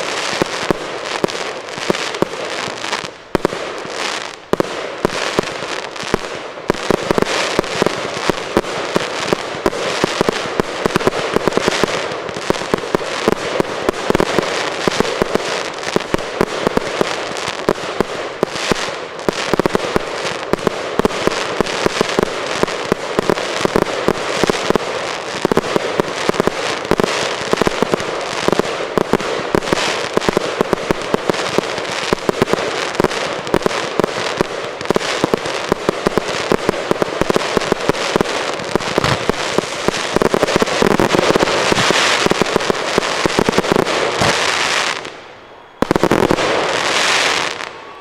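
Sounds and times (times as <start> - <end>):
fireworks bursts and crackle: 0.0 - 48.0.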